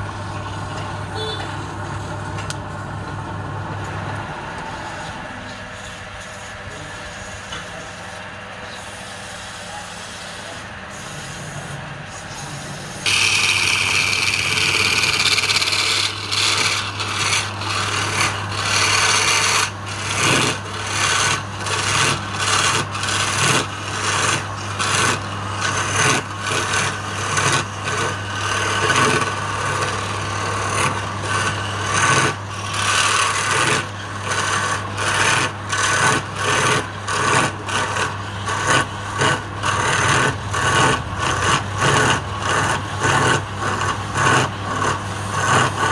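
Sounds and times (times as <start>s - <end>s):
wood lathe humming: 0.0s - 45.9s
scraper rasping on spinning wood: 5.7s - 45.9s.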